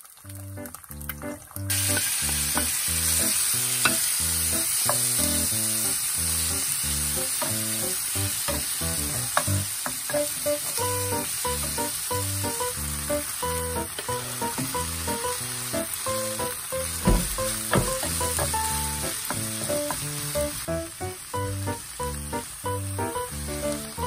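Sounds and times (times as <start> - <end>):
food sizzling in frying pan: 0.0 - 24.0
background music: 0.3 - 24.0.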